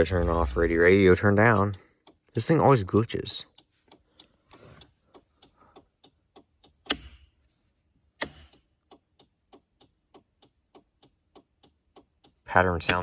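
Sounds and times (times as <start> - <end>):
turn signal flasher clicking: 0.0 - 7.4, 8.1 - 13.0.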